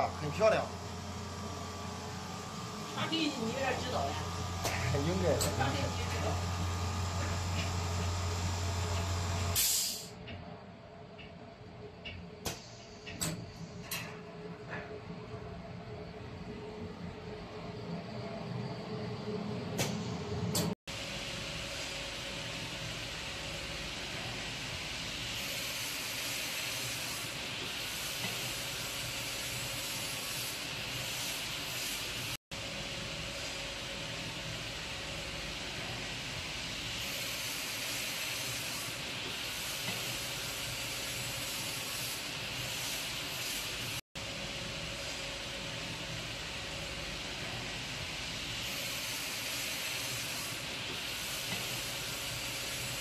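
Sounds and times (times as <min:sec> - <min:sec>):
machine running with steady hiss: 0:00.0 - 0:10.2, 0:11.2 - 0:53.0.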